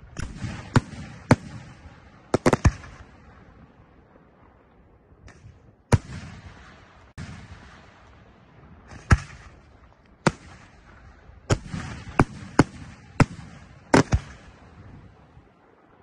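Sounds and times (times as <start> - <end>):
firework bangs: 0.0 - 15.5.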